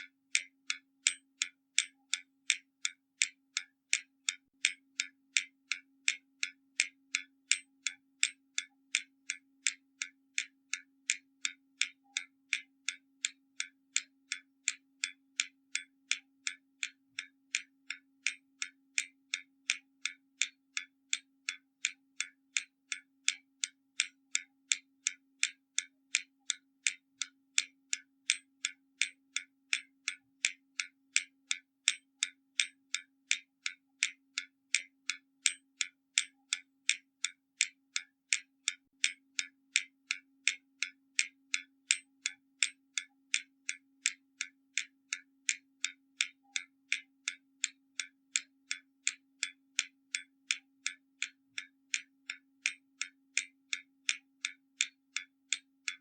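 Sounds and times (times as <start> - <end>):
mechanical clock ticking: 0.0 - 56.0.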